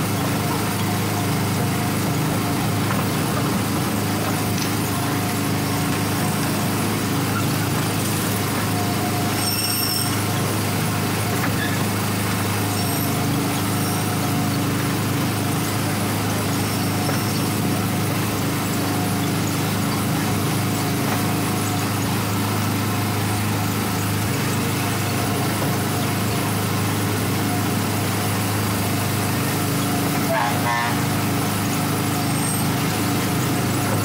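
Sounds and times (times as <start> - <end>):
small gasoline engine running: 0.0 - 34.0.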